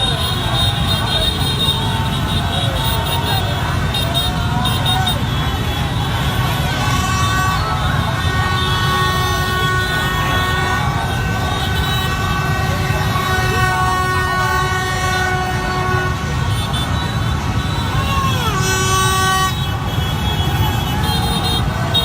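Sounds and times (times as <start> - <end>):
crowd din: 0.0 - 22.0
horns holding long notes: 0.0 - 22.0
traffic din: 0.0 - 22.0.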